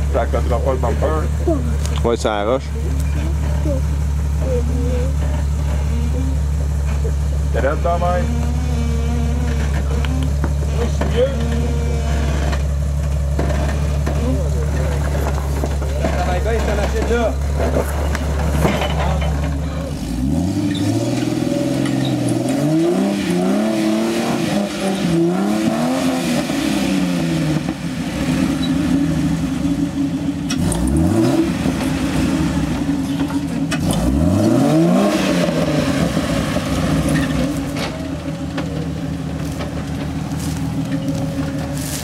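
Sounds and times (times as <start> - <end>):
engine revving: 0.0 - 42.0.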